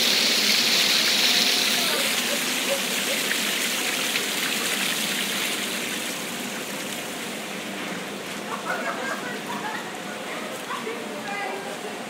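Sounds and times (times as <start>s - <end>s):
floodwater cascading: 0.0s - 12.0s.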